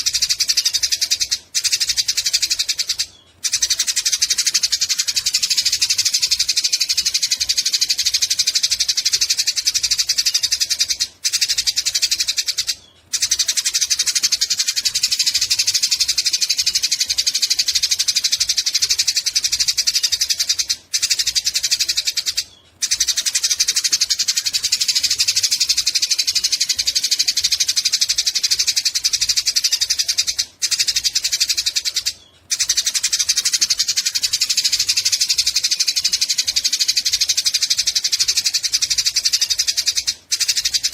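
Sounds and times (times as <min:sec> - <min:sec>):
sparrows chattering: 0:00.0 - 0:40.9.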